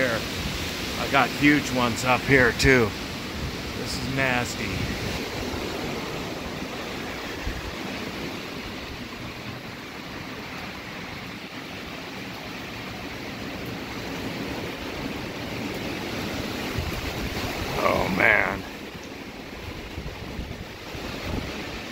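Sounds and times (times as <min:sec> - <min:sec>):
storm wind roaring through trees: 0:00.0 - 0:21.9.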